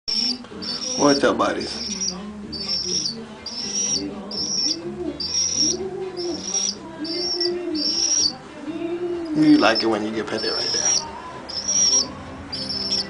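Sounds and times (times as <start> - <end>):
pigeon cooing: 0.1 - 13.0.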